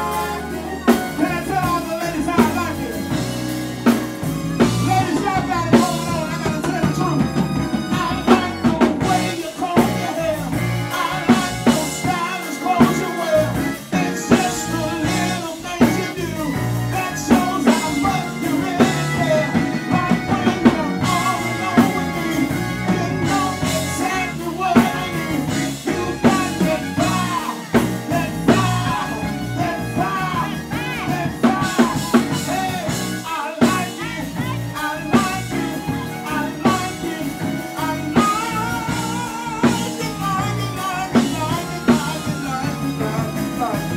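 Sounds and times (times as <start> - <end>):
drum kit: 0.0 - 43.9
electric guitar: 0.0 - 43.9
man singing into a microphone: 0.0 - 43.9.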